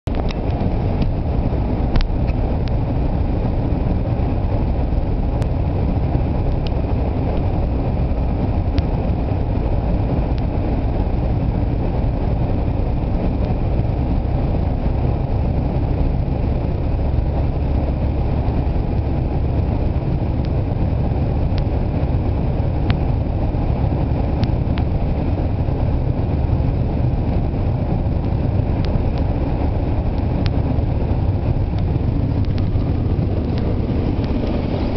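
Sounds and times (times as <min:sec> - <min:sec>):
car road and engine noise: 0:00.0 - 0:34.9
tyres on slushy road: 0:00.1 - 0:34.9.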